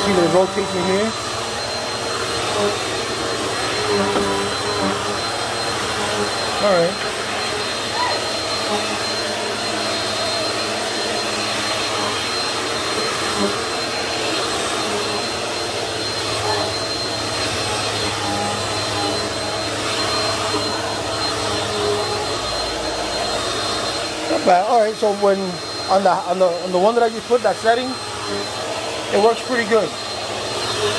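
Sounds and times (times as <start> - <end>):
vacuum cleaner on carpet: 0.0 - 30.9.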